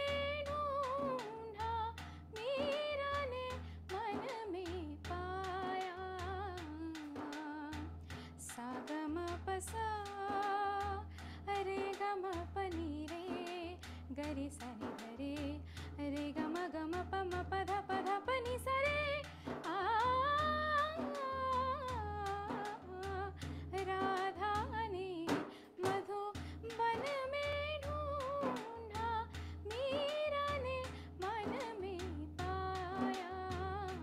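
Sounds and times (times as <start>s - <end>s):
rhythmic percussion accompaniment: 0.0s - 34.0s
woman singing devotional song: 0.0s - 34.0s.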